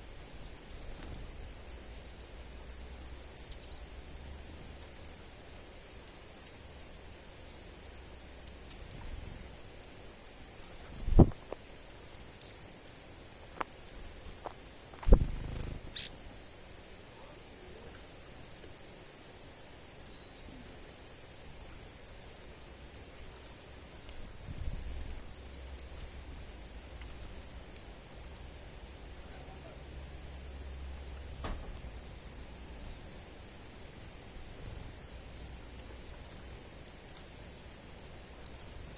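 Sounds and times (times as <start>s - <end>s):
low outdoor hiss: 0.0s - 38.9s
small birds chirping: 0.0s - 38.9s.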